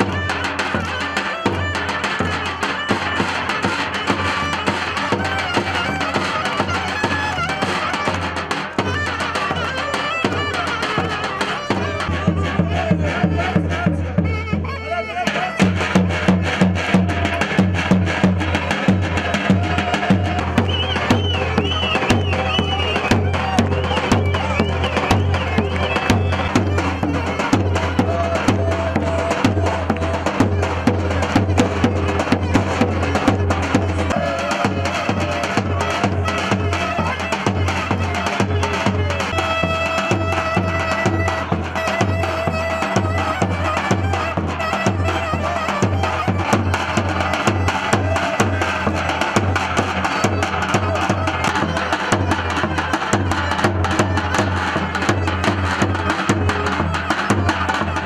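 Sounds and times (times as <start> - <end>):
big drum beating: 0.0 - 58.0
zurna playing melody: 0.0 - 58.0.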